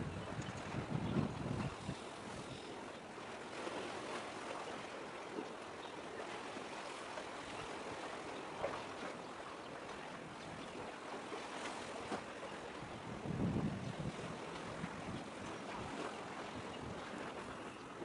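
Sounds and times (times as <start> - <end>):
small waves washing among concrete blocks: 0.0 - 18.0.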